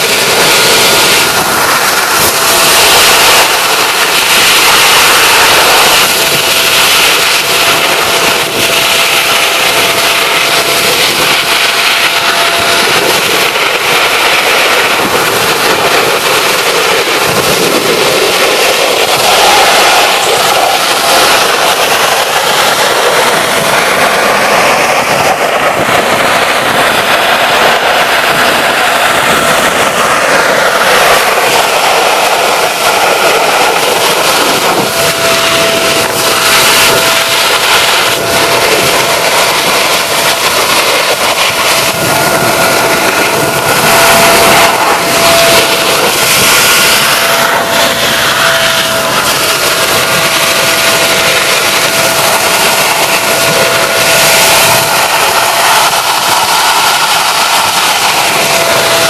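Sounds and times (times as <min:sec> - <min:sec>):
steady whine: 0:00.0 - 0:59.0
vacuum cleaner motor running: 0:00.0 - 0:59.0.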